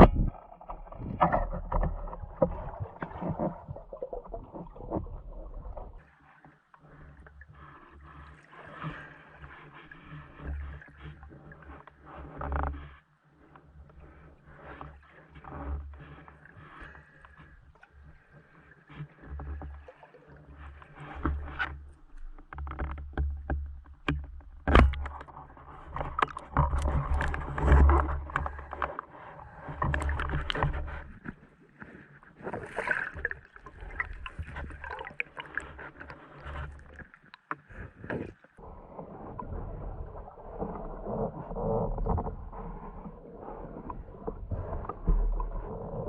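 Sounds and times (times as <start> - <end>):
water sloshing and gurgling: 0.0 - 46.0.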